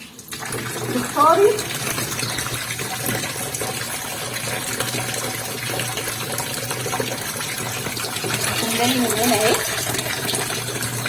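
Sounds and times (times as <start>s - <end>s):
water running into washing machine tub: 0.0s - 11.0s.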